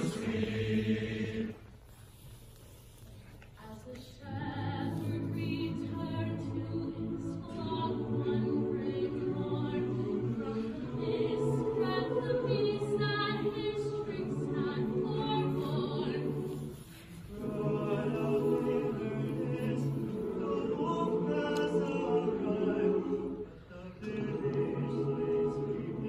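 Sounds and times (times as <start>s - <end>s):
choir singing: 0.0s - 1.7s, 4.2s - 26.0s.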